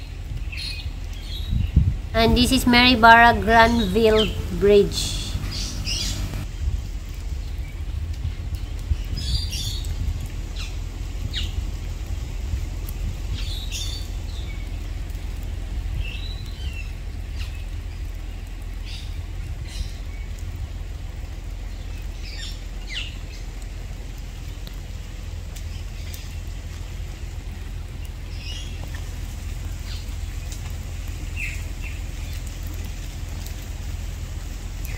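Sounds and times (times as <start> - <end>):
steady low rumble: 0.0 - 34.9
birds chirping: 0.4 - 6.5, 8.6 - 33.9.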